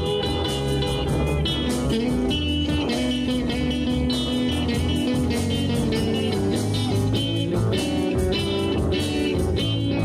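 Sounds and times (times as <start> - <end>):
live blues band playing: 0.0 - 10.0.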